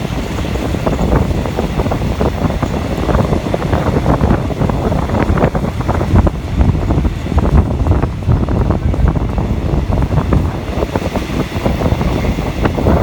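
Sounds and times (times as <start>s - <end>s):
moving train rumble and rattle: 0.0s - 13.0s
wind buffeting microphone: 0.0s - 13.0s.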